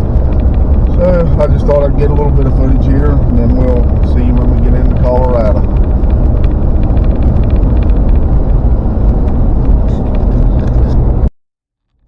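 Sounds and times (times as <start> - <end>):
road rumble inside vehicle: 0.0 - 12.0.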